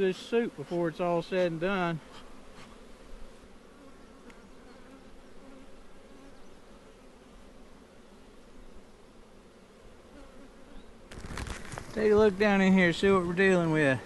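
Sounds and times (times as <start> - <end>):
honey bees buzzing: 0.0 - 14.0.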